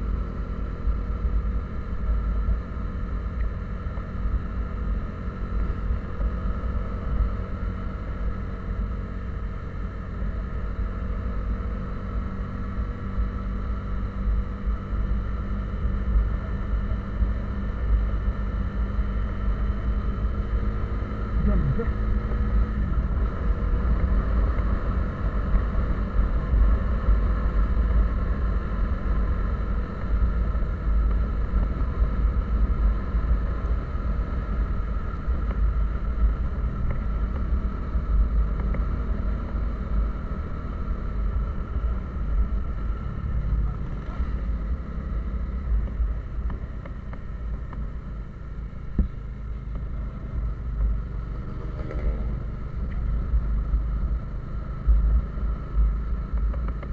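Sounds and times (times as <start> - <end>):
low road rumble: 0.0 - 56.9
vehicle engine drone: 0.0 - 56.9.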